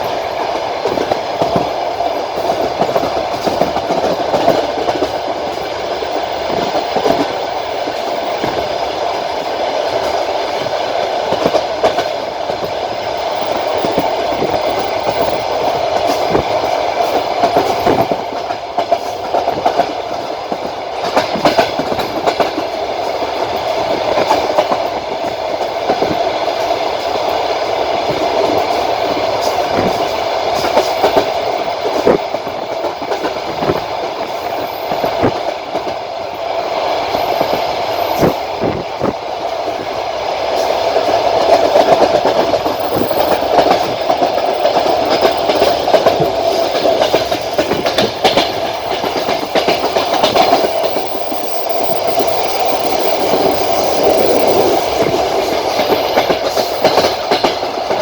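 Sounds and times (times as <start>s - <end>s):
train rolling roar: 0.0s - 58.0s
wheels clacking over rail joints: 0.0s - 58.0s.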